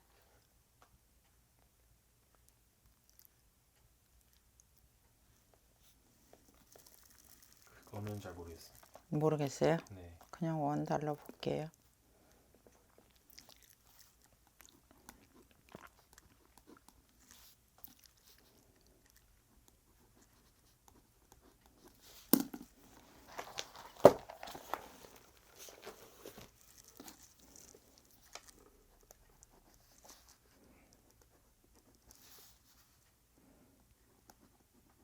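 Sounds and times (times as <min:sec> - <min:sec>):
faint clicks and rustles: 0:00.0 - 0:35.0.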